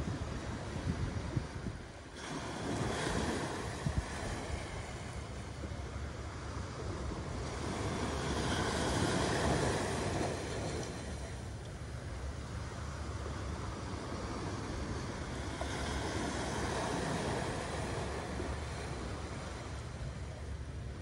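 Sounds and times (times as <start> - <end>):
small waves breaking on shore: 0.0 - 21.0
wind rumbling on microphone: 0.0 - 21.0.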